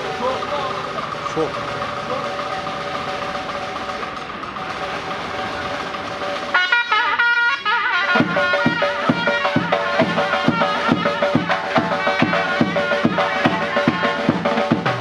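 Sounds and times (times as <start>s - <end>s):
drum beating: 0.0s - 15.0s
reedy shawm melody: 0.0s - 15.0s.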